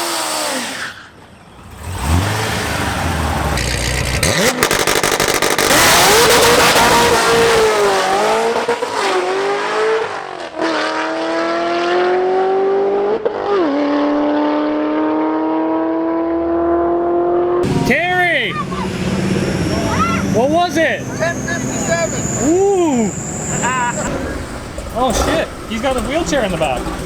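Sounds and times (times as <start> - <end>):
drag car engine launching and upshifting: 0.0 - 12.3, 17.6 - 27.0.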